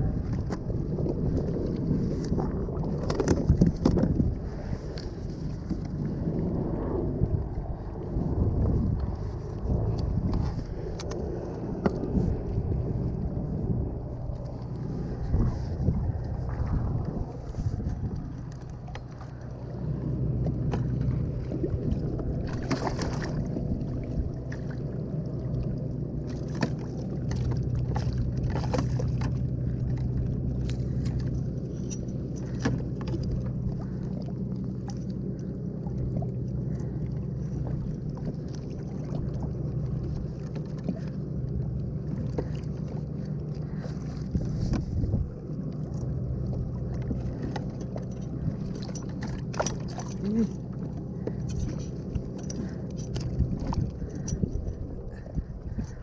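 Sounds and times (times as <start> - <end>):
water rumble: 0.0 - 56.0
wind: 0.0 - 56.0.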